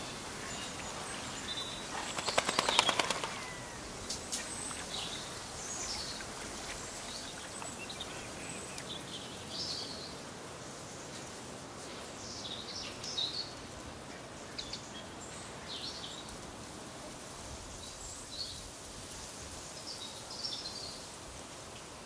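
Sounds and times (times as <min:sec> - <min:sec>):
outdoor ambience hiss: 0:00.0 - 0:22.0.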